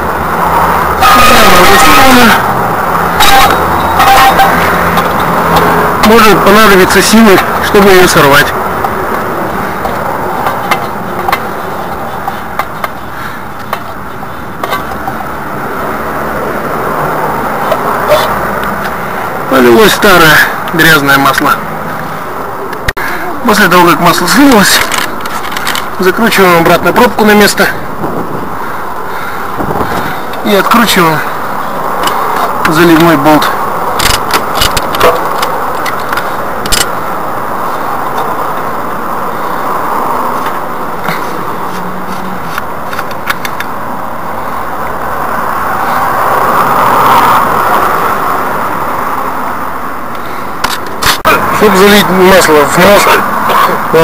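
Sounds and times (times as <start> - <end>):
steady background noise: 0.0 - 54.0.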